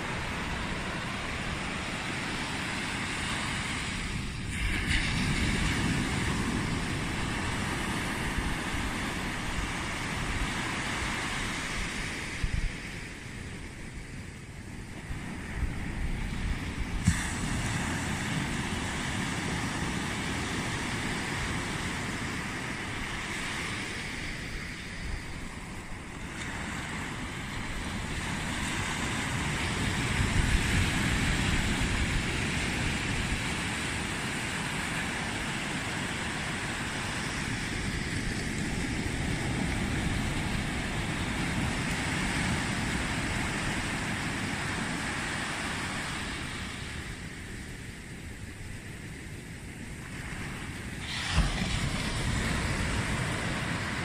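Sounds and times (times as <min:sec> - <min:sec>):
small waves breaking on beach: 0:00.0 - 0:54.0
wind rumbling on microphone: 0:00.0 - 0:54.0.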